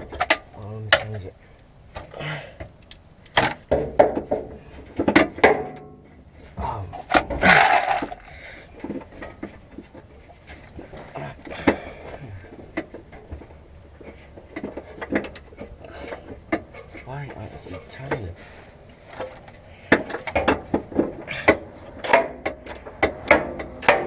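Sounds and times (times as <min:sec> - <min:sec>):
hand tools and metal parts clanking: 0:00.0 - 0:24.0.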